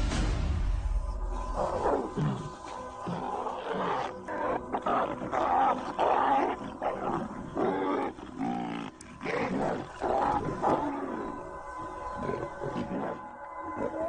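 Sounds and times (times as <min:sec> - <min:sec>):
wild animals growling and bellowing: 0:01.3 - 0:14.0.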